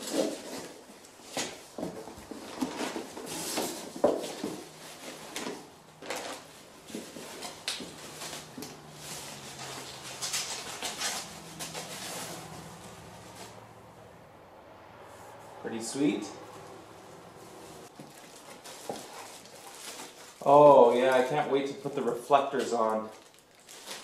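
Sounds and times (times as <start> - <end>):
cardboard and bubble wrap rustling: 0.0 - 13.9, 16.8 - 24.0.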